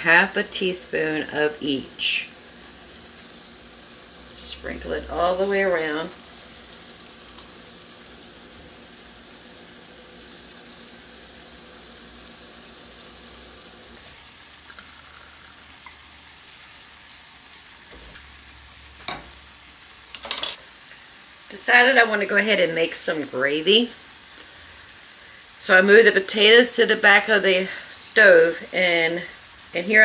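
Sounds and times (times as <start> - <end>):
potatoes sizzling in a skillet: 0.0 - 30.0.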